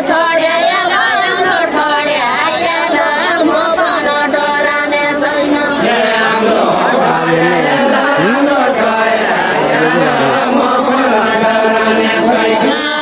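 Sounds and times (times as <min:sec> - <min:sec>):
group singing folk song: 0:00.0 - 0:13.0.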